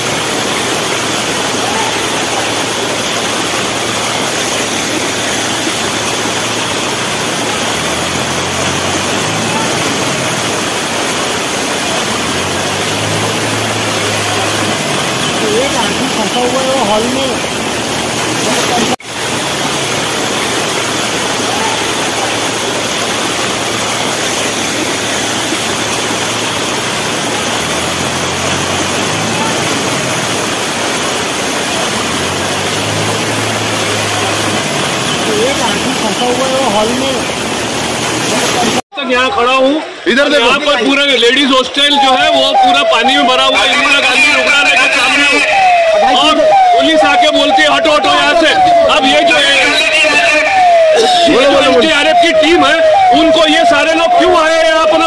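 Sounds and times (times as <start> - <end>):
floodwater rushing: 0.0 - 55.0.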